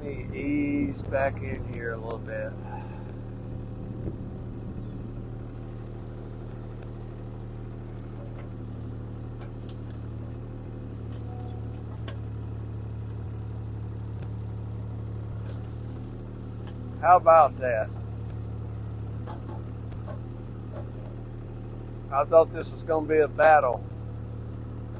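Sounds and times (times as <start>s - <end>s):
excavator diesel engine: 0.0s - 24.9s.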